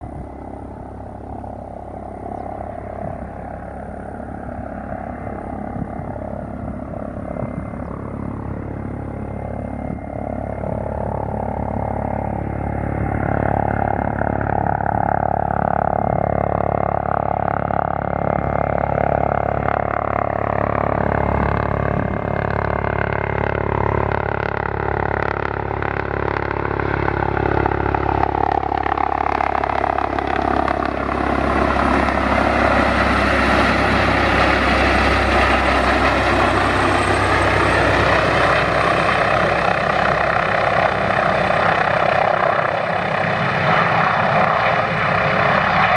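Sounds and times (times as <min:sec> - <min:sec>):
helicopter rotor and turbine whine: 0:00.0 - 0:45.9.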